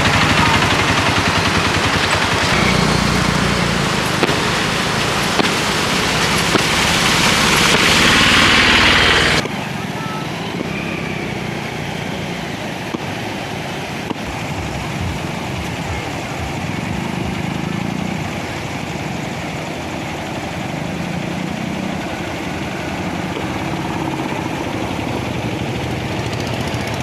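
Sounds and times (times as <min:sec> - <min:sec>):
autorickshaw engine running: 0:00.0 - 0:27.0
loud rushing noise: 0:00.0 - 0:27.0.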